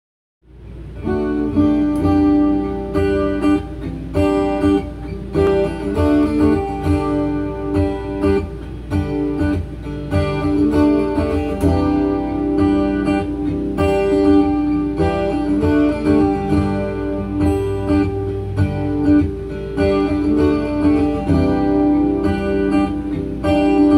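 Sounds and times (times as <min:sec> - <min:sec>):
acoustic guitar strumming: 0:00.4 - 0:23.9.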